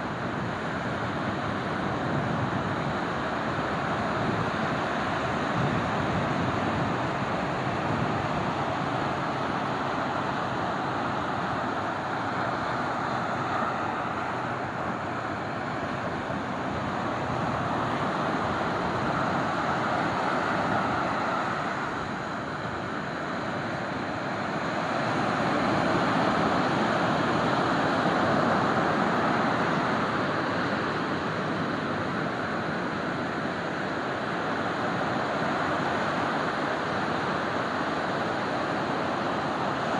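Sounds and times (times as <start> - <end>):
ocean surf breaking on a beach: 0.0 - 39.9.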